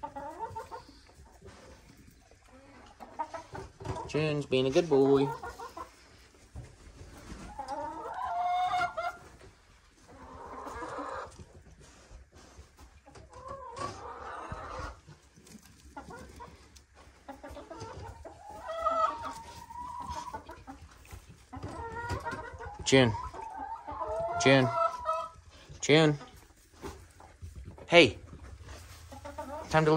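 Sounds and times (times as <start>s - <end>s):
hens clucking: 0.0s - 29.9s.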